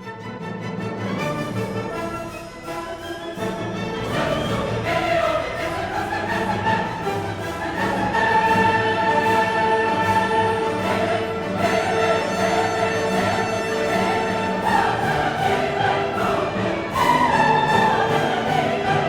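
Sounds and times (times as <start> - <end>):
orchestral music: 0.0 - 19.0
choir singing held notes: 1.9 - 19.0.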